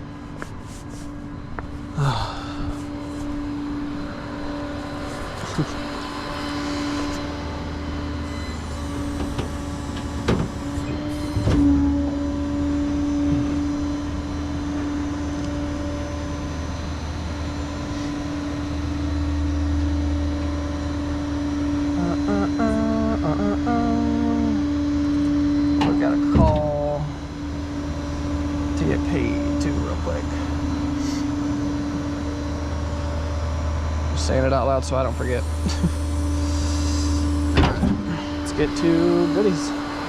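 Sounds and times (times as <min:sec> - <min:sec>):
road rumble: 0:00.0 - 0:40.0
truck engine droning: 0:00.0 - 0:40.0.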